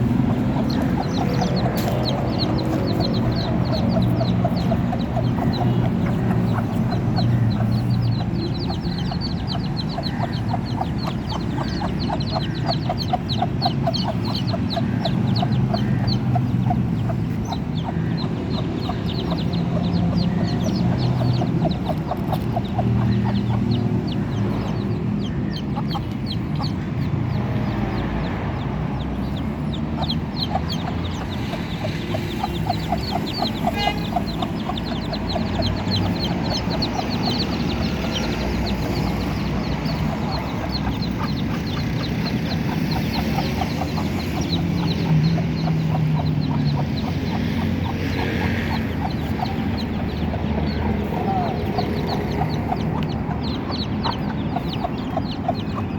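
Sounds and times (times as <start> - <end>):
chicks peeping: 0.0 - 55.9
hen clucking: 0.0 - 55.9.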